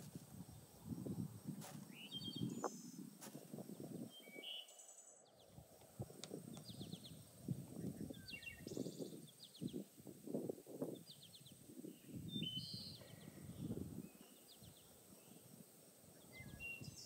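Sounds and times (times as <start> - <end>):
small birds trilling: 0.0 - 10.0, 10.7 - 17.0.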